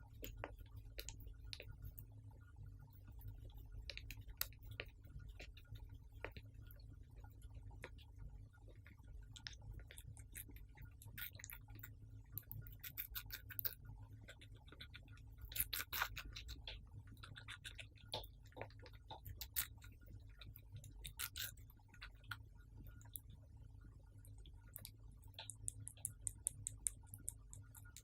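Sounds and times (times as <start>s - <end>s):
hamster chewing watermelon: 0.0s - 28.0s
steady low hum: 0.0s - 28.0s.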